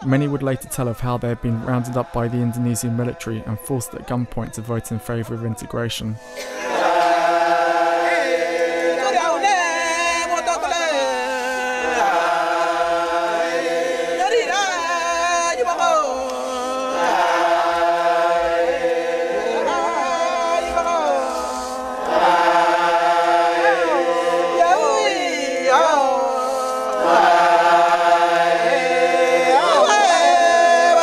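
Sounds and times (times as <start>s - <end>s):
men chanting in unison: 0.0s - 31.0s.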